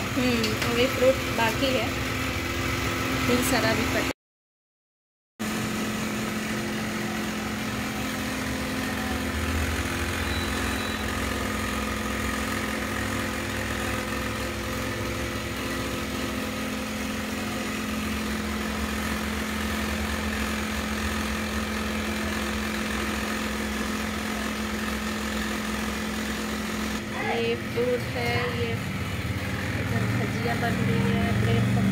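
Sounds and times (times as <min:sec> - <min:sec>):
electric motor humming: 0:05.4 - 0:31.9.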